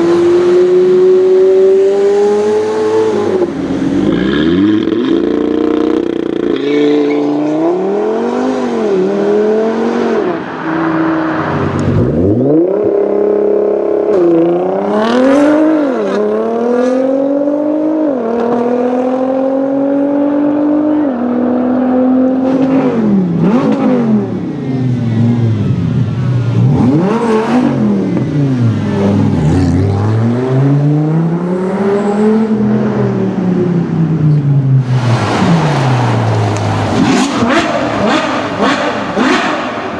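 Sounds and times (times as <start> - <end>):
car engine revving hard: 0.0 - 24.3, 26.6 - 33.0, 34.9 - 39.9.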